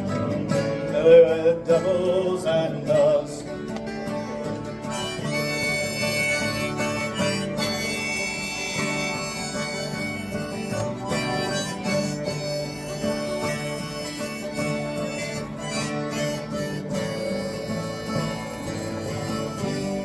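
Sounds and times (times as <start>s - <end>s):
guitar accompaniment: 0.0s - 20.0s
harmonica solo: 3.5s - 20.0s.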